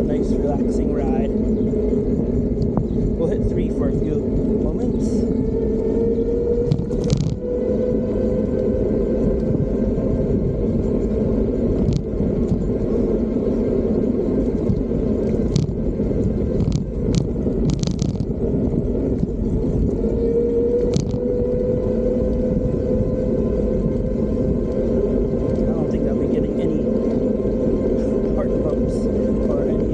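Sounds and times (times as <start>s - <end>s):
electric motor whine: 0.0s - 29.9s
tyres and wind rumble: 0.0s - 29.9s.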